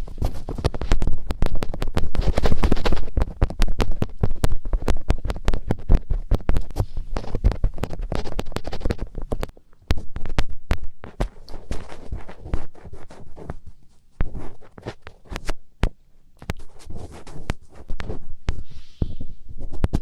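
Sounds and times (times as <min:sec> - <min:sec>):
fingertips rubbing microphone: 0:00.0 - 0:15.6, 0:16.4 - 0:20.0.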